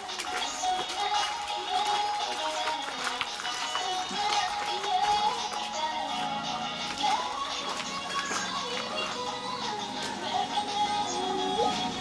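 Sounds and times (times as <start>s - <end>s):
music with sliding melody: 0.0s - 12.0s.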